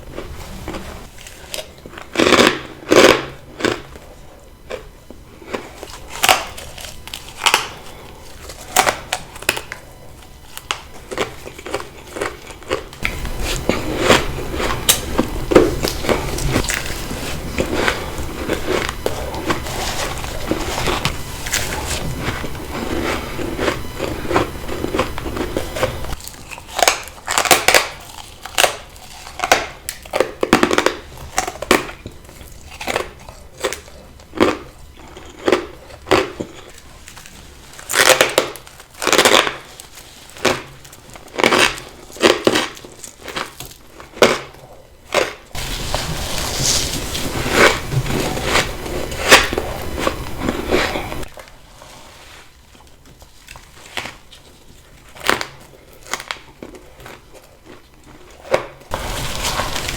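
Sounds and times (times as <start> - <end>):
ice being chewed: 0.0 - 59.9.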